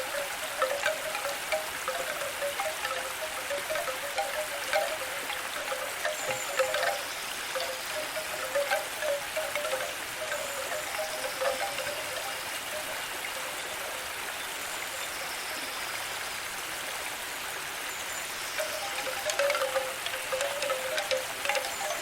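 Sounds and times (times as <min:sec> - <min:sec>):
wind chimes: 0:00.0 - 0:15.7, 0:18.4 - 0:22.0
flowing water hiss: 0:00.0 - 0:22.0.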